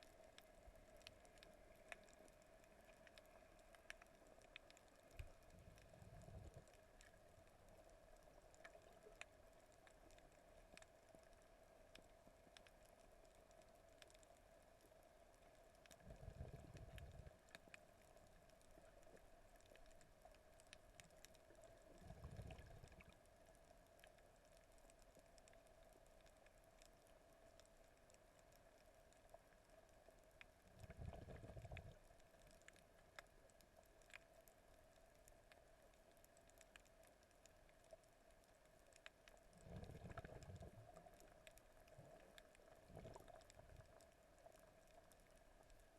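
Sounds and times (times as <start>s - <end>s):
faint underwater clicks: 0.0s - 45.9s
muffled water surges: 0.0s - 45.9s
underwater low hum: 0.0s - 45.9s.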